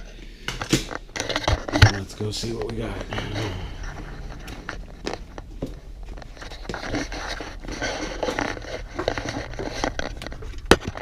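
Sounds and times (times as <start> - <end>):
rustling and scraping handling noise: 0.0 - 11.0.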